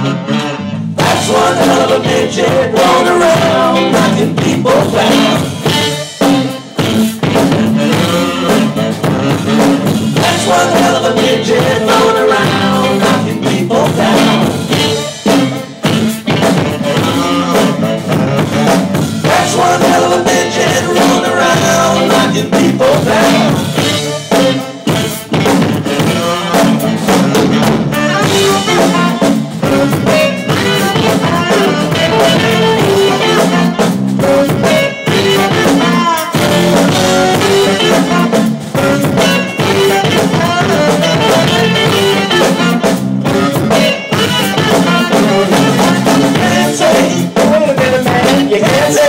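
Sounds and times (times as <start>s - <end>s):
live band playing instrumental: 0.0s - 49.0s
drum kit rimshots and bass drum: 0.9s - 49.0s.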